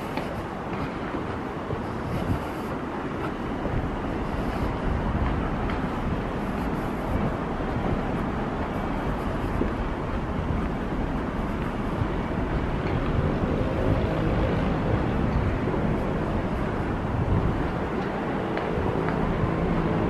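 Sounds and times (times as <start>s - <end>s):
distant city traffic: 0.0s - 20.0s
wind on microphone: 0.0s - 20.0s.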